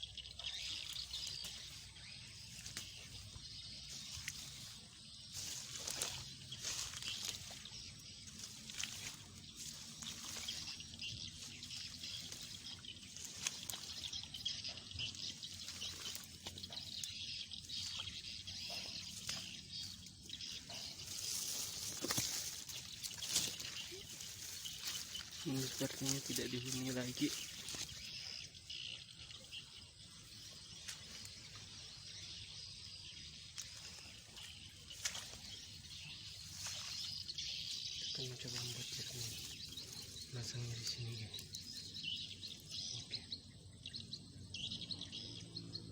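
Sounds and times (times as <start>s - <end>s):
light crackles and rustles: 0.4s - 28.8s, 33.5s - 42.9s.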